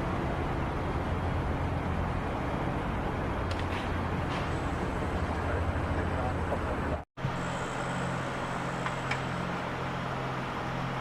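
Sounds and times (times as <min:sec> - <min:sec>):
heavy engines droning: 0:00.0 - 0:11.0.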